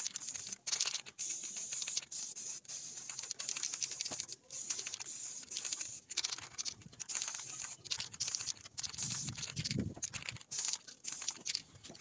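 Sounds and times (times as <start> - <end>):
spray-paint can hissing: 0.0 - 11.6.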